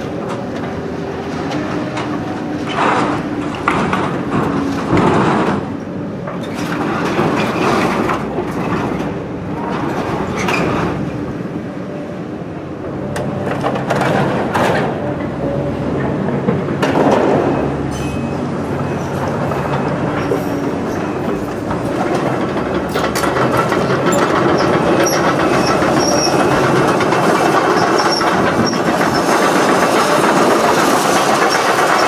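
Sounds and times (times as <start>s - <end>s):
demolition machine engine running: 0.0s - 32.0s.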